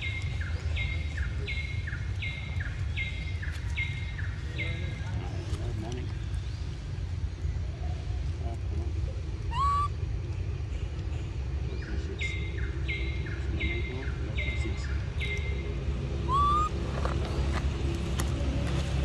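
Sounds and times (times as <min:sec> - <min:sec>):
forest birds calling: 0:00.0 - 0:19.0
steady low rumble: 0:00.0 - 0:19.0.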